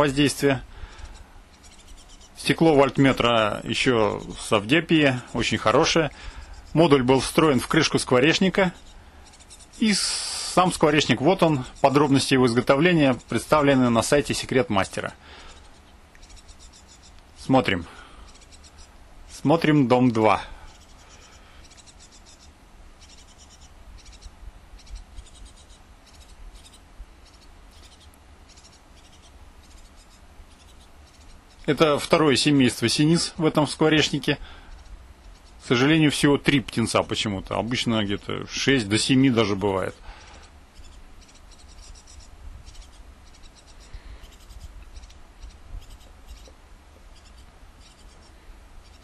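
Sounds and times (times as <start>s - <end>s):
low steady hum: 0.0s - 49.0s
nestlings cheeping: 0.0s - 49.0s.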